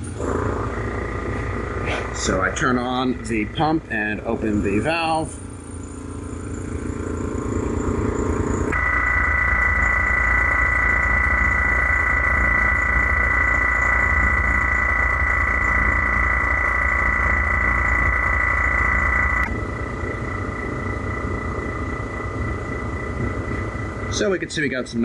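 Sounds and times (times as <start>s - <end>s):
high steady whine: 0.0s - 25.0s
vacuum pump hum: 0.0s - 25.0s.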